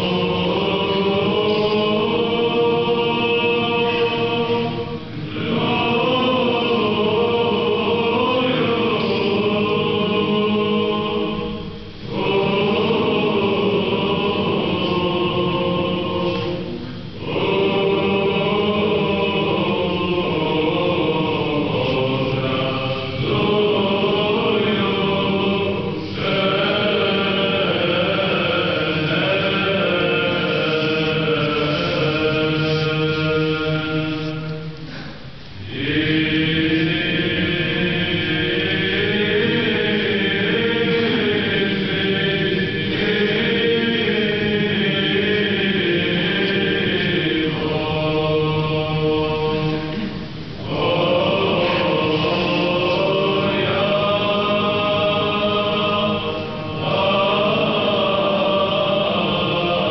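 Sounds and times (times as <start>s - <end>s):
unaccompanied choir chanting: 0.0s - 59.9s.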